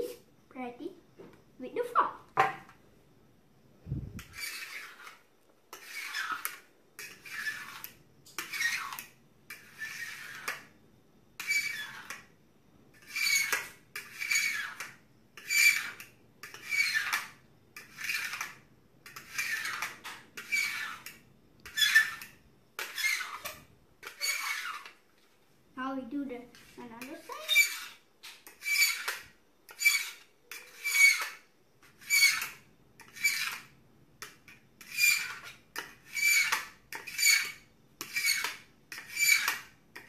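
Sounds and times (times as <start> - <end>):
fork scraping metal baking tray: 4.2 - 10.7, 11.4 - 12.3, 12.9 - 25.0, 26.5 - 33.8, 34.5 - 40.0.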